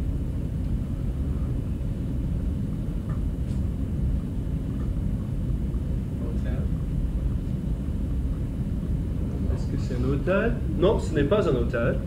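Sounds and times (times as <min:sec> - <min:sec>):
low room noise rumble: 0:00.0 - 0:12.0.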